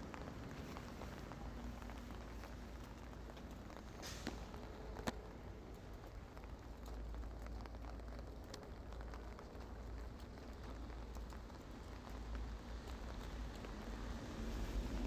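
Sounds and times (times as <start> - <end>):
rain on hard surface: 0.0 - 15.0.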